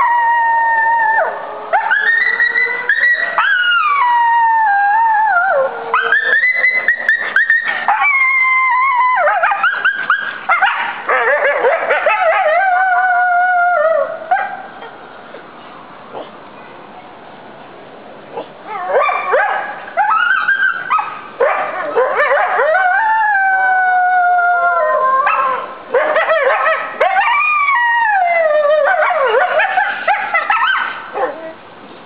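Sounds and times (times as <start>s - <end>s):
coyote howling and yipping: 0.0s - 14.5s, 18.4s - 31.6s.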